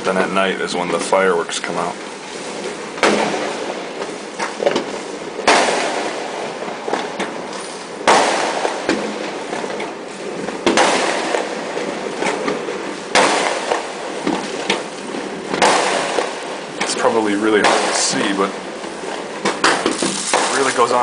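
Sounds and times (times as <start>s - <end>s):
firecracker cracks popping: 0.0s - 21.0s
fireworks big bangs with echo: 0.0s - 21.0s.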